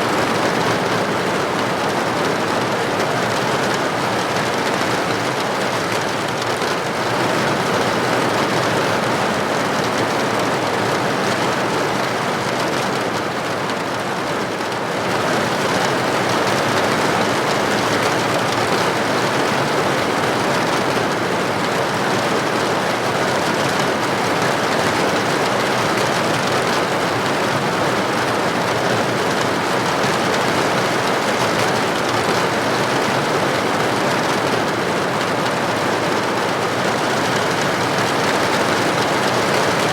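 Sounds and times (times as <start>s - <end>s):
steady rain heard indoors: 0.0s - 39.9s.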